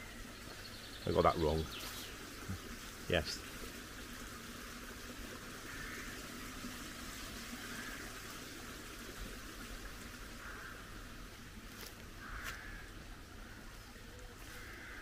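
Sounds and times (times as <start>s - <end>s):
stream trickling over stones: 0.0s - 15.0s.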